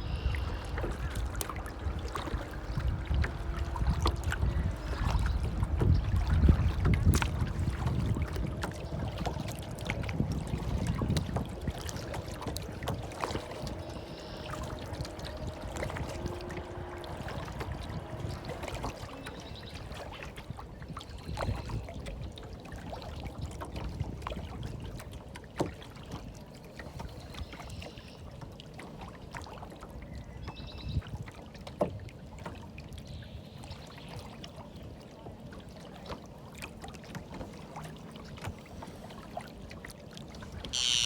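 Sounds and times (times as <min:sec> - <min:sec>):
water lapping and sloshing: 0:00.0 - 0:41.0.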